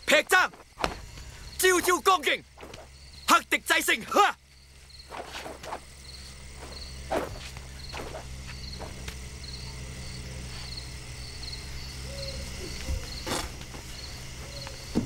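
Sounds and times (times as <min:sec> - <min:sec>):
crickets chirping: 0:00.0 - 0:15.0
steady low hum: 0:00.0 - 0:15.0.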